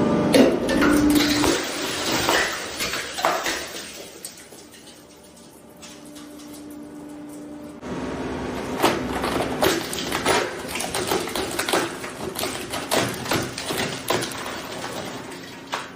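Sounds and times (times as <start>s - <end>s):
shredder humming: 0.0s - 15.9s.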